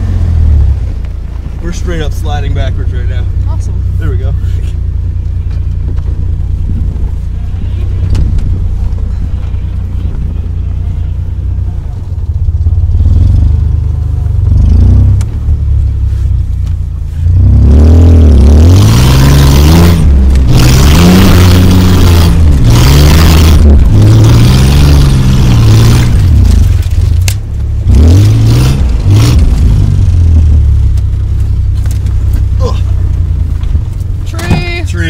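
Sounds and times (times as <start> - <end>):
truck engine revving: 0.0 - 16.4, 17.1 - 35.0.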